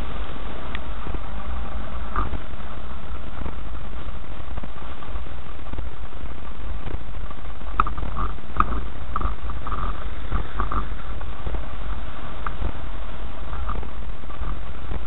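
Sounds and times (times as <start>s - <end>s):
car cabin rumble on dirt track: 0.0s - 15.0s.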